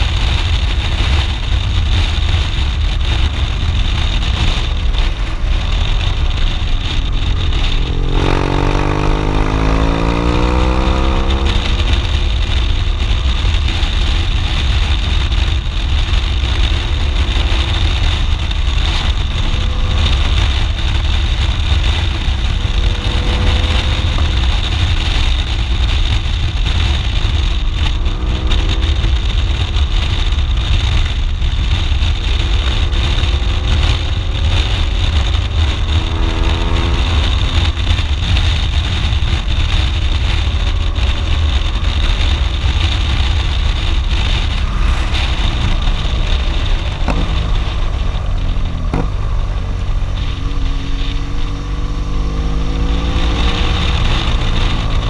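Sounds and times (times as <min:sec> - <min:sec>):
motorcycle engine: 0:00.0 - 0:55.0
wind rush on microphone: 0:00.0 - 0:55.0.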